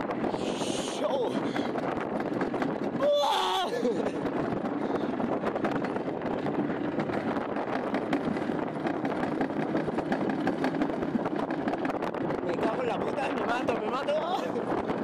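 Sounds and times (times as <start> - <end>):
sled clicking on metal: 0.0 - 15.0
sled rattling on metal track: 0.0 - 15.0.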